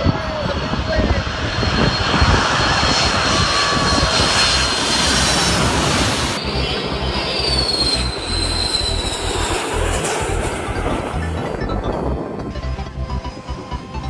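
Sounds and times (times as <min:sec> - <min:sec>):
jet airliner engines roaring: 0:00.0 - 0:14.0.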